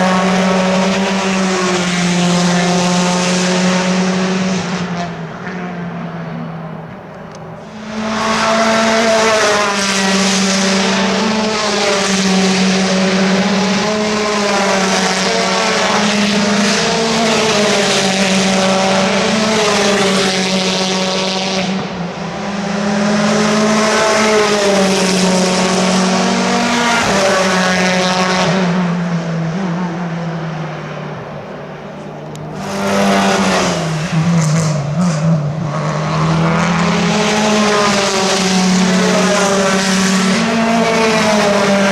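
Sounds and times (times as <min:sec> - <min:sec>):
racing car engines at high revs: 0:00.0 - 0:41.9.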